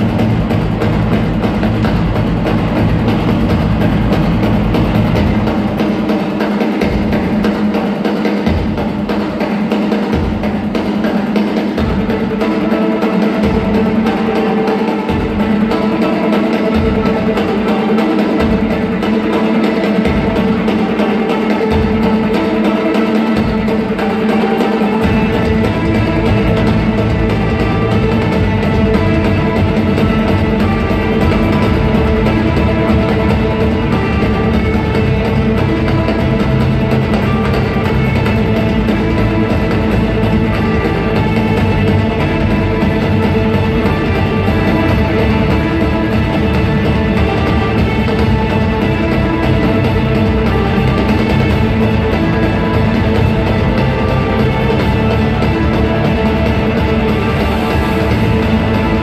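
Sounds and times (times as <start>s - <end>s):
orchestra playing film music: 0.0s - 59.0s.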